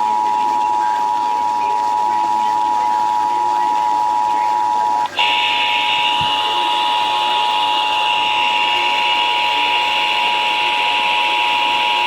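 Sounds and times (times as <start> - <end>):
two-tone alert signal: 0.0 - 12.0.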